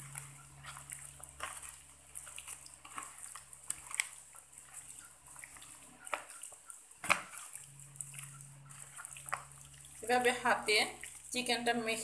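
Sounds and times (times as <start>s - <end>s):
hand squishing raw chicken: 0.0s - 12.0s.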